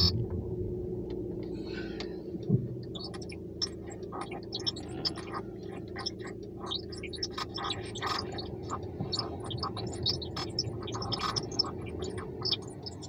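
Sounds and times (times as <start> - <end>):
crackling radio interference: 0.0 - 0.3, 2.7 - 13.0
steady low hum: 0.0 - 13.0.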